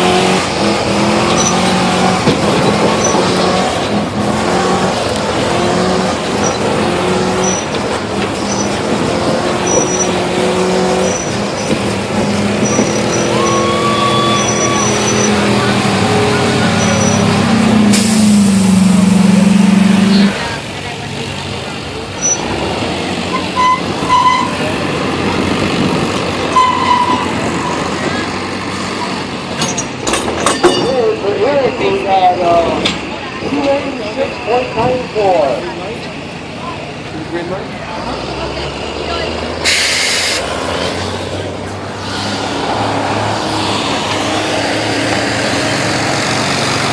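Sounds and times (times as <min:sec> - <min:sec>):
truck engine under load: 0:00.0 - 0:46.9.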